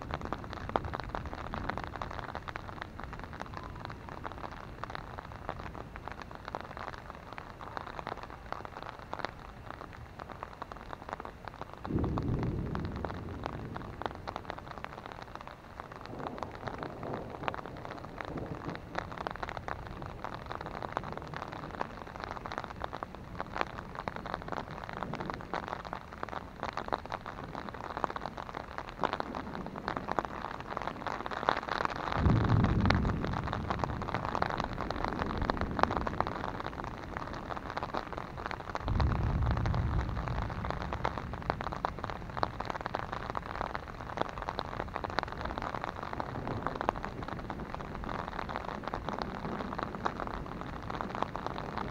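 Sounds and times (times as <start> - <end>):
rain on an umbrella: 0.0 - 51.9
thunder rumbles: 0.0 - 51.9.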